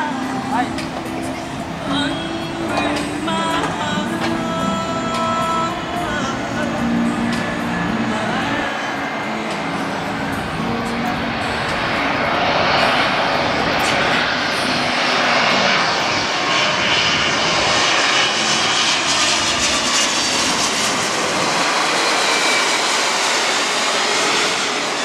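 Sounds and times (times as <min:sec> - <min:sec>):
jet engines passing overhead: 0:00.0 - 0:25.0.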